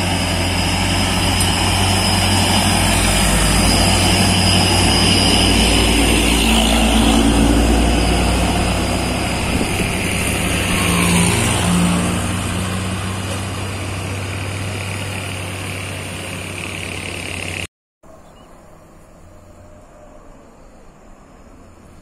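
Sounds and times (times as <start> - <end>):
diesel truck engine under load: 0.0 - 17.7
quiet roadside background: 0.0 - 22.0.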